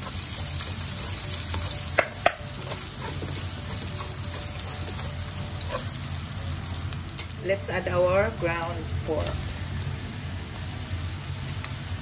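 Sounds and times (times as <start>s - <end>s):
onion and garlic sizzling in oil: 0.0s - 12.0s.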